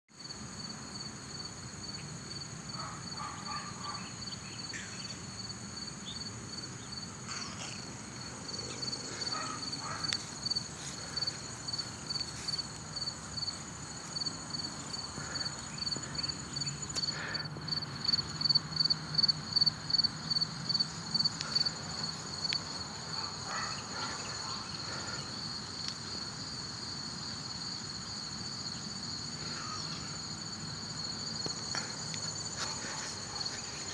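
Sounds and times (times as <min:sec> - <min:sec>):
crickets chirping: 0:00.2 - 0:33.9
high insect buzz: 0:00.2 - 0:33.9.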